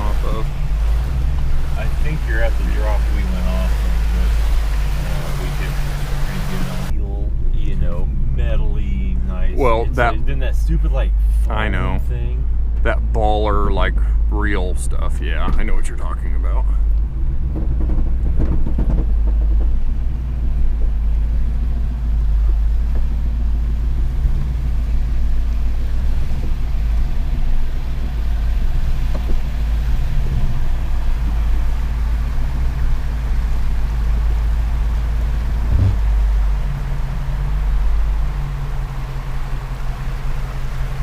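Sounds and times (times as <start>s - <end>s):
engine running low rumble: 0.0s - 41.0s.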